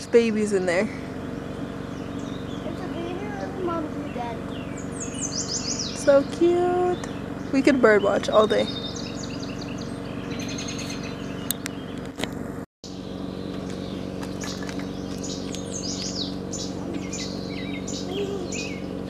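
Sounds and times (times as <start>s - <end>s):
songbirds chirping: 0.0s - 12.2s, 12.8s - 19.0s.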